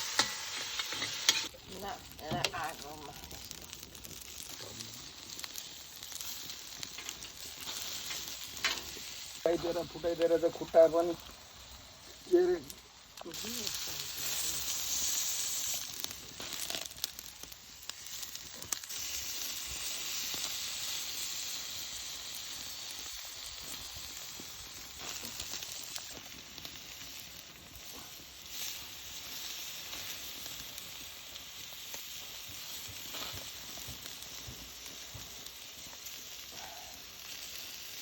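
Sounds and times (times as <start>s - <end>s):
meat sizzling with pops: 0.0s - 38.0s.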